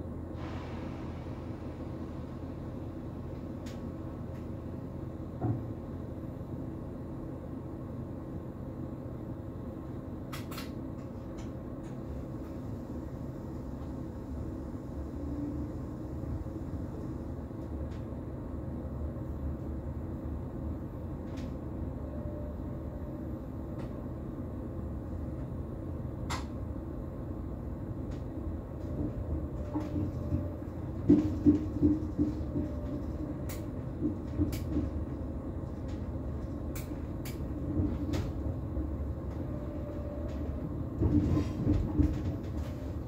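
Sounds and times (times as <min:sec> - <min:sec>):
train low rumble: 0:00.0 - 0:43.0.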